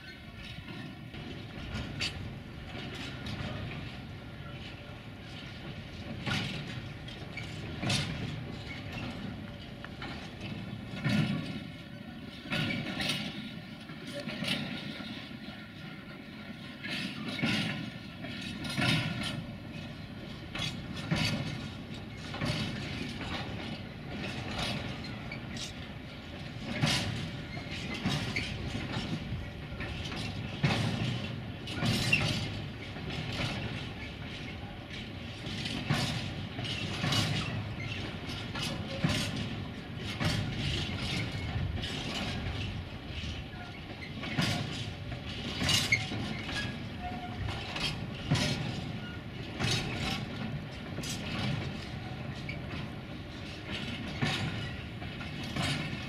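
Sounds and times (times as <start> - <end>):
train rumble: 0.0 - 56.0
train wheels knocking over rail joints: 0.0 - 56.0.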